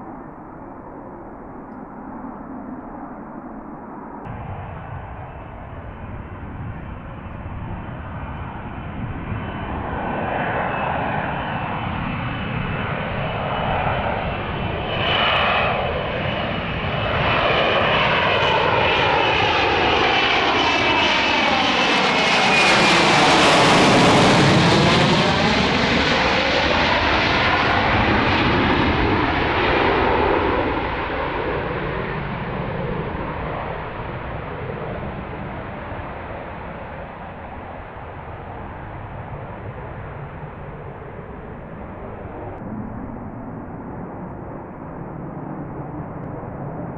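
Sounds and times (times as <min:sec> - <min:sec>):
jet passing by: 0:00.0 - 0:46.9.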